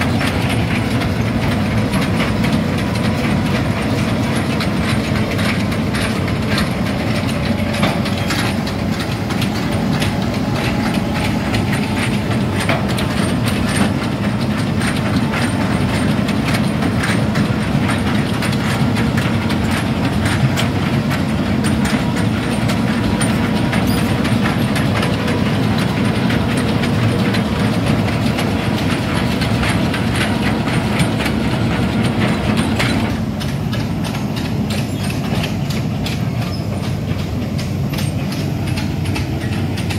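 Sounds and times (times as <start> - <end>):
diesel engine running: 0.0 - 39.9
steel track chains clanking: 0.0 - 39.9.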